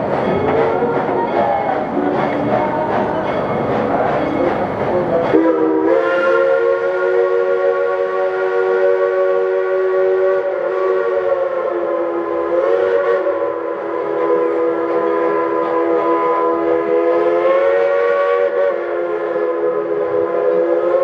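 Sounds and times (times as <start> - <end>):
steam locomotive chime whistle: 0.0 - 21.0.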